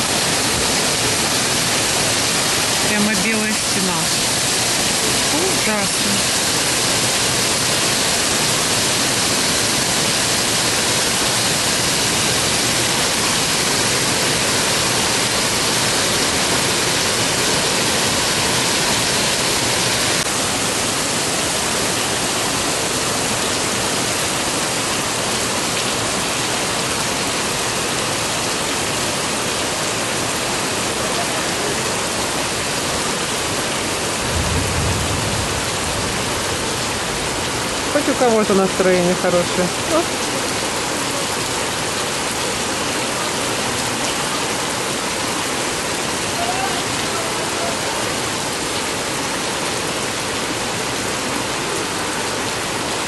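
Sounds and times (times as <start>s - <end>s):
heavy rain on standing water: 0.0s - 53.0s.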